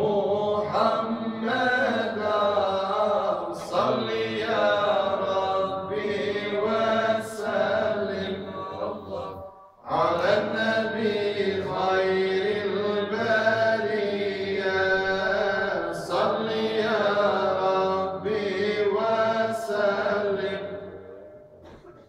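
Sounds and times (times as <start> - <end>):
man chanting a hymn: 0.0 - 21.1.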